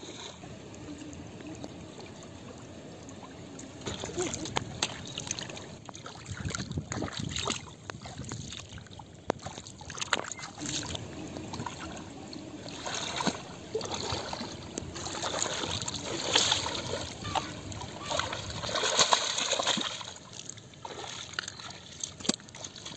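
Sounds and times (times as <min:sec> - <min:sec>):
shallow water splashing: 0:00.0 - 0:22.9.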